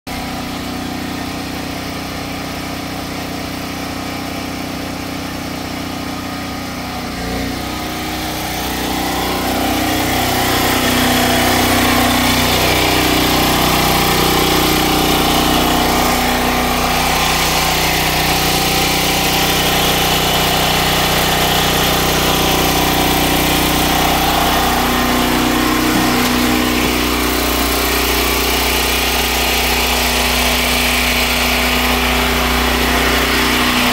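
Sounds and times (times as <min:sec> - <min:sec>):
generator engine running: 0:00.1 - 0:33.9.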